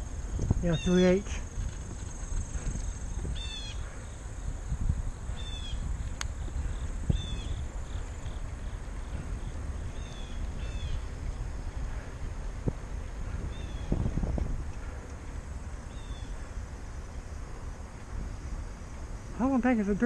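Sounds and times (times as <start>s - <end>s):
bike rolling noise: 0.0s - 20.0s
wind rumble: 0.0s - 20.0s.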